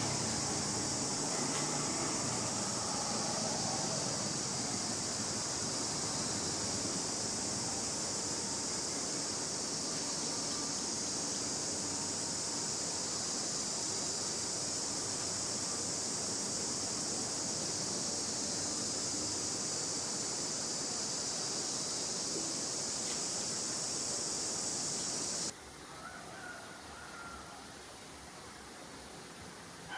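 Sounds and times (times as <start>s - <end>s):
insects droning: 0.0s - 29.9s.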